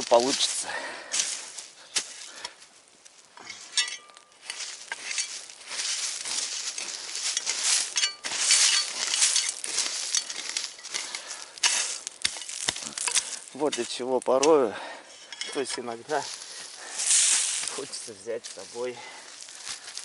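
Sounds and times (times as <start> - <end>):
earth and stones scraping: 0.0 - 20.0.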